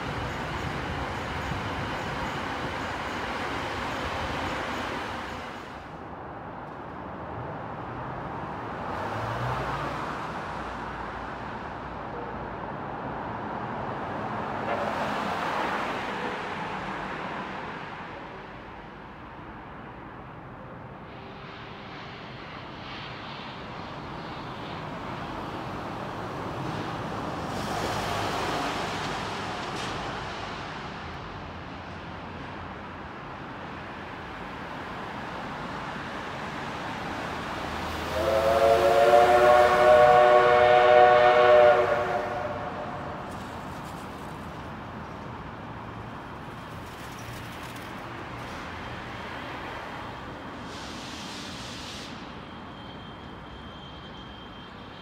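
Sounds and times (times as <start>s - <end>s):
trains rushing rumble: 0.0s - 55.0s.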